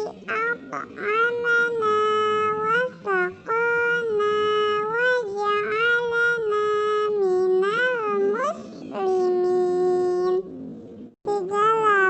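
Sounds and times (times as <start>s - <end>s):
high-pitched singing voice: 0.0s - 10.5s, 11.3s - 12.0s.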